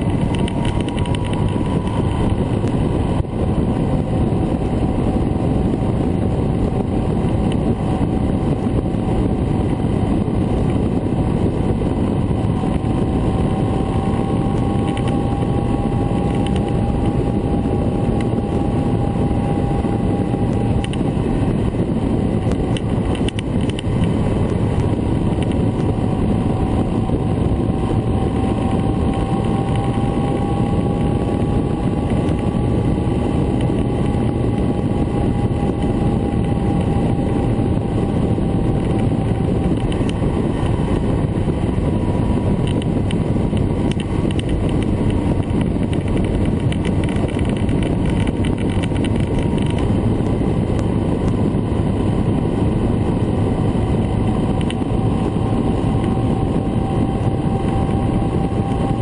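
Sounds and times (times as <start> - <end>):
motorcycle engine cruising: 0.0 - 59.0
road noise: 0.0 - 59.0
wind rush: 0.0 - 59.0.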